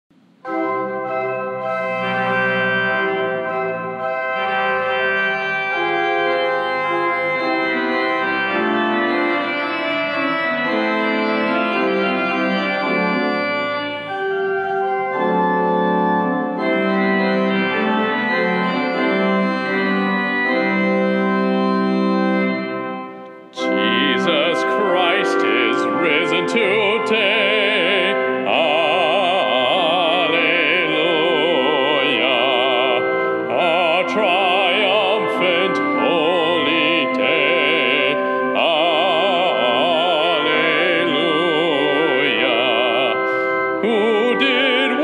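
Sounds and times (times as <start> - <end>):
pipe organ chords: 0.1 - 45.0.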